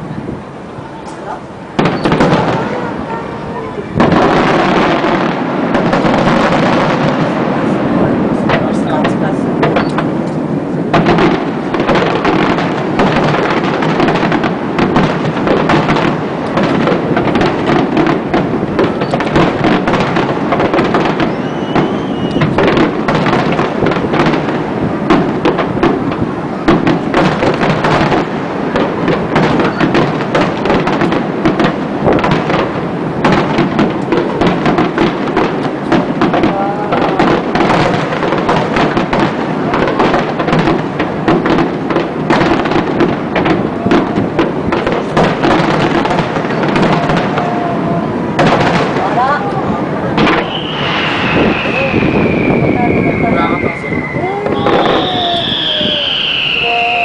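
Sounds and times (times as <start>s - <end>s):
fireworks booming: 0.0s - 57.0s
fireworks crackle: 0.0s - 57.0s.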